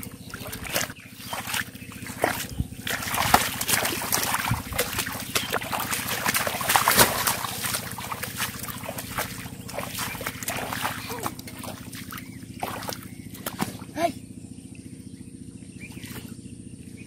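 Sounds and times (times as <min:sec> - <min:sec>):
feet splashing through water: 0:00.0 - 0:14.0
low pulsing drone: 0:00.0 - 0:17.0.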